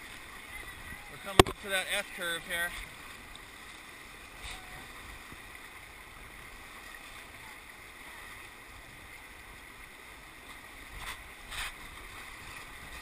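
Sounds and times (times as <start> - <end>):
whitewater rushing around a raft: 0.0 - 13.0.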